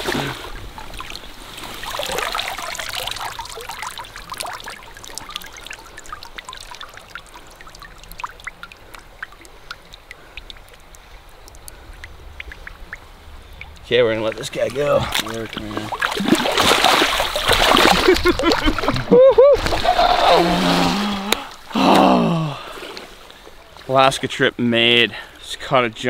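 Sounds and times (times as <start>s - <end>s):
river water splashing: 0.0s - 23.9s.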